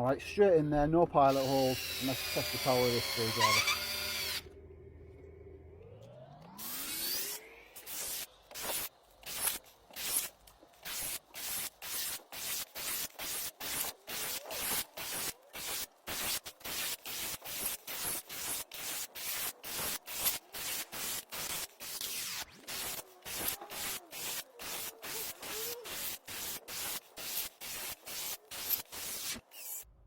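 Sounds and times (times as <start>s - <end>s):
power screwdriver whirring: 1.3s - 4.5s, 6.0s - 29.9s.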